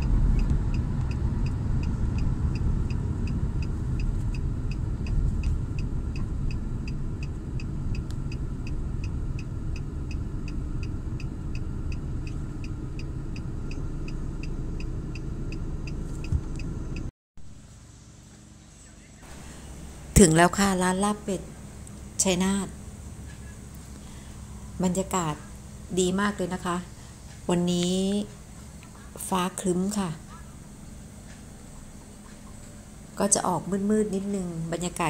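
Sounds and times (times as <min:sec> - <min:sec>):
car road and engine rumble: 0:00.0 - 0:17.9, 0:18.5 - 0:35.0.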